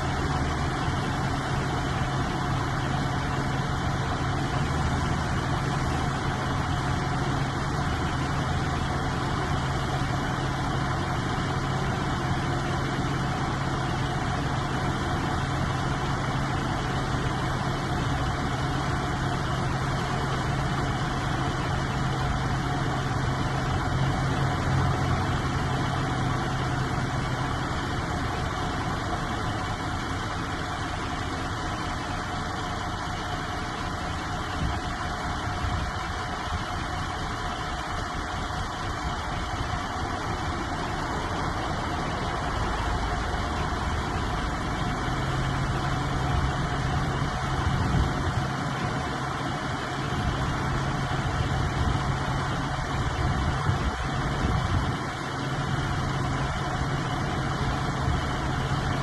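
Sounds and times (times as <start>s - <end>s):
truck diesel engine idling: 0.0s - 59.0s.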